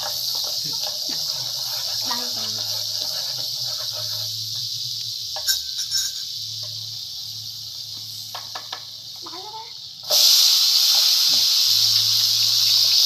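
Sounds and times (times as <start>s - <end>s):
hot oil sizzling in a frying pan: 0.0s - 13.0s.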